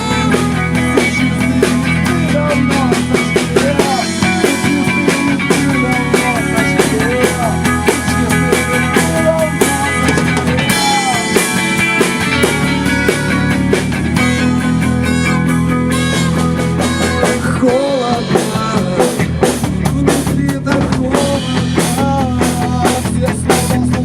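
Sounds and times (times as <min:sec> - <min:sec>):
bending lead guitar line: 0:00.0 - 0:24.0
rock band playing: 0:00.0 - 0:24.0.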